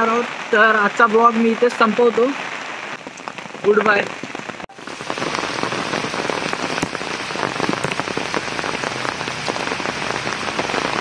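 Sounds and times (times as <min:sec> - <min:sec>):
heavy rain pouring: 0:00.0 - 0:11.0
raindrop hits close by: 0:00.0 - 0:11.0.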